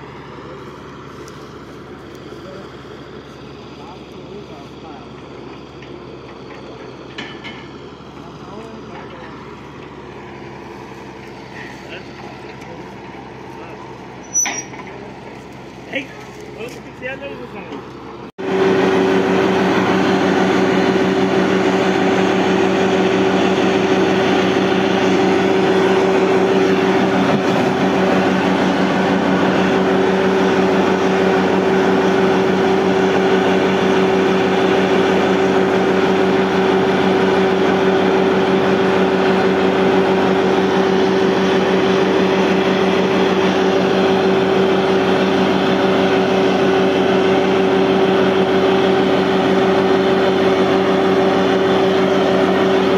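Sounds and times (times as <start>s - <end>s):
drilling rig drone: 0.0s - 52.9s.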